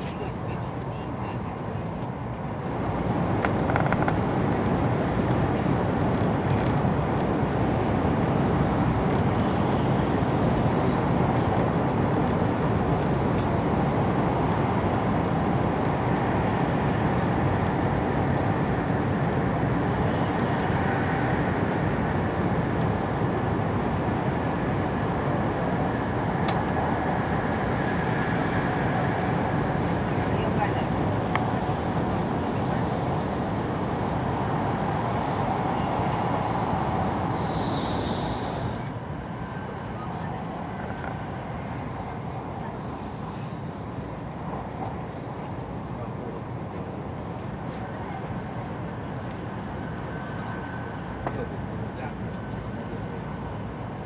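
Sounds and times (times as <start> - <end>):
faint whine: 0.0 - 54.0
train roaring through tunnel: 0.0 - 54.0.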